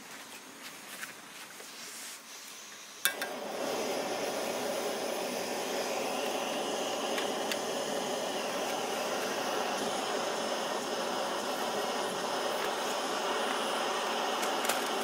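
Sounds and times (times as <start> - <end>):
gas stove burner hissing: 2.1 - 15.0.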